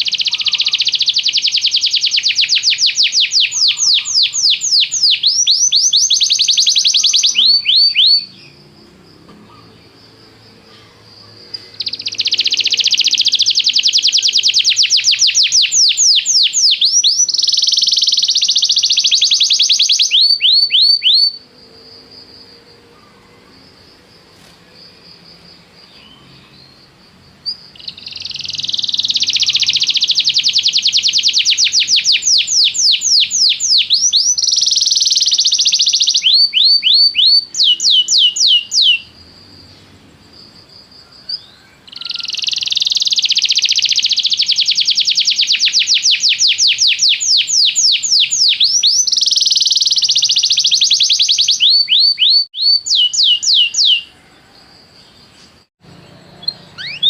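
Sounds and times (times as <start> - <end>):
canary singing: 0.0 - 8.8, 9.4 - 21.6, 25.7 - 39.2, 41.2 - 54.2, 55.2 - 57.0.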